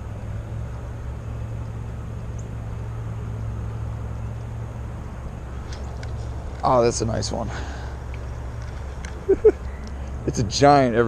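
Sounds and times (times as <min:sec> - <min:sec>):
construction machinery engine hum: 0:00.0 - 0:11.0.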